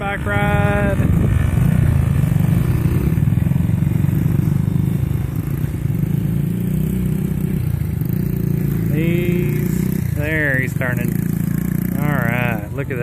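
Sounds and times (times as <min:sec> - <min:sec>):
dirt bike engine puttering: 0:00.0 - 0:13.0.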